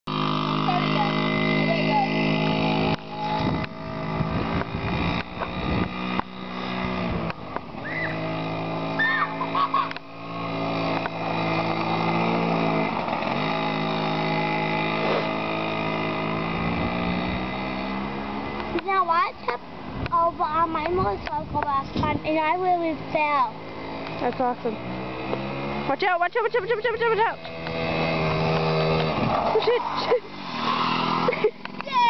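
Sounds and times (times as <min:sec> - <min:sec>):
dirt bike engine revving: 0:00.1 - 0:19.6, 0:21.8 - 0:32.0.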